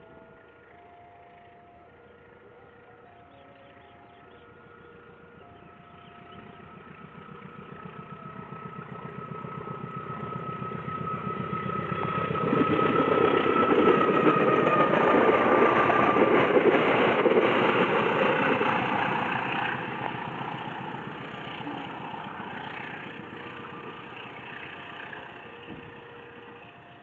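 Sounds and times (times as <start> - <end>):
diesel train engine approaching: 0.0 - 27.0.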